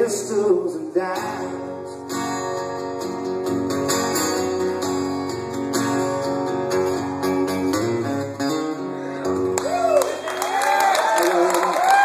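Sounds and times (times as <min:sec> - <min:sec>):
acoustic guitar strumming: 0:00.0 - 0:09.8.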